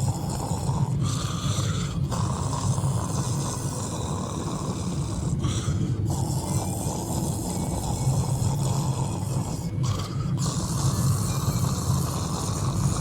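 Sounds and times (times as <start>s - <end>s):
person snoring: 0.0s - 13.0s.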